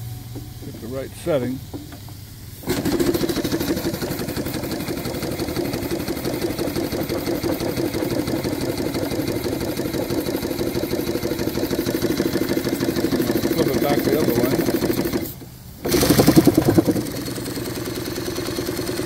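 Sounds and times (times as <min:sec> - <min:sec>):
steam engine running: 0:00.0 - 0:19.0.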